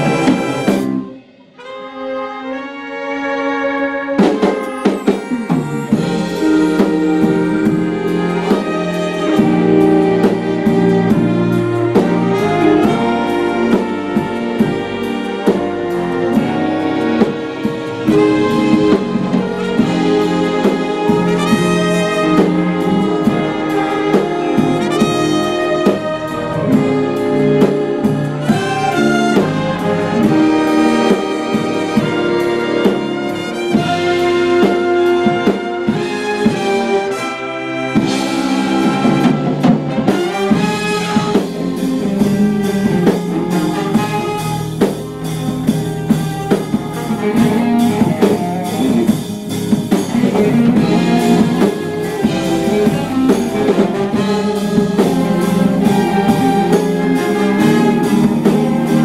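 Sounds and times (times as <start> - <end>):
saxophone: 0.0 - 59.0
trumpet: 0.0 - 59.0
violins: 0.0 - 59.0.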